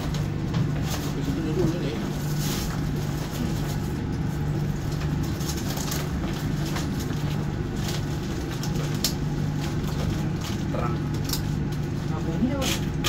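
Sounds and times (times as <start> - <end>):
ship machinery hum: 0.0 - 13.0.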